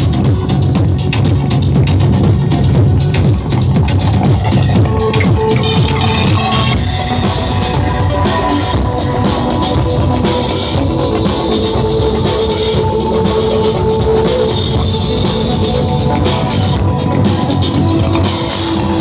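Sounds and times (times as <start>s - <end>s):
drum kit: 0.0s - 19.0s
guitar: 0.0s - 19.0s
loud rock music: 0.0s - 19.0s.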